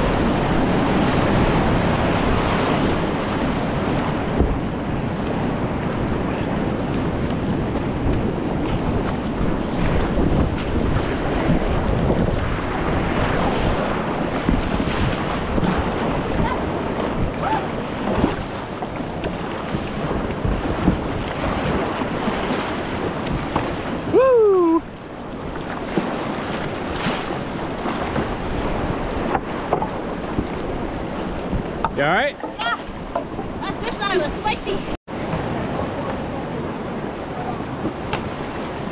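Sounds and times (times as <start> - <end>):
whitewater rushing: 0.0 - 11.6, 12.4 - 25.0, 25.6 - 38.9
wind buffeting microphone: 0.0 - 38.9.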